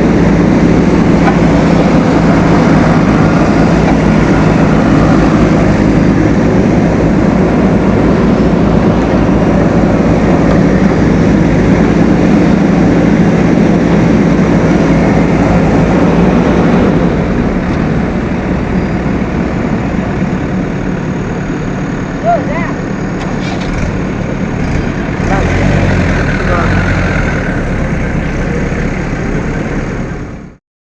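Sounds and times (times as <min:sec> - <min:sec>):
heavy machine diesel engine: 0:00.0 - 0:30.6.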